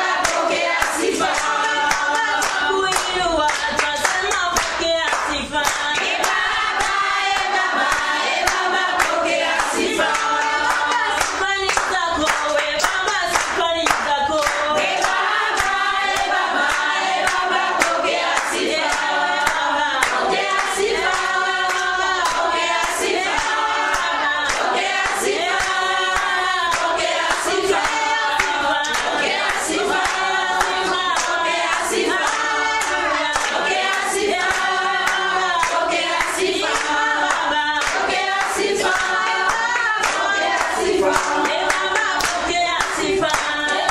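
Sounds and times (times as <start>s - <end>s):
choir singing in harmony: 0.0s - 43.9s
hand clapping: 0.0s - 43.9s.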